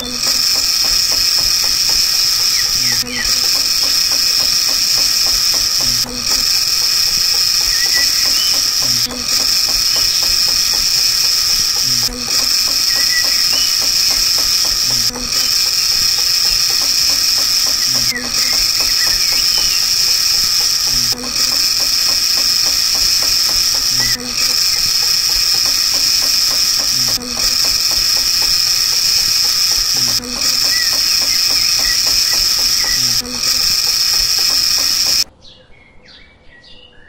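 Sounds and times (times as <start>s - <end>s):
small electric motor whining: 0.0s - 35.3s.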